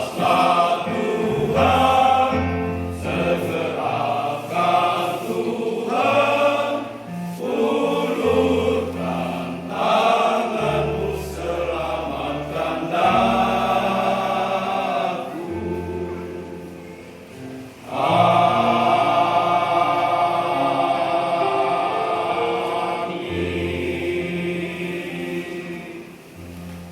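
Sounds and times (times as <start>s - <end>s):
choir singing a hymn: 0.0s - 26.9s.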